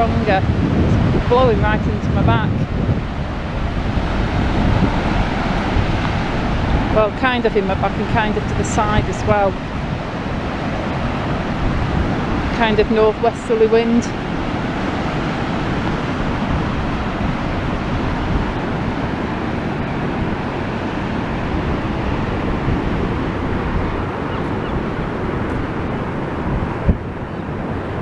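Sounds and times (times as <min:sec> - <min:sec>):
rough sea surf: 0:00.0 - 0:28.0
wind buffeting microphone: 0:00.0 - 0:28.0.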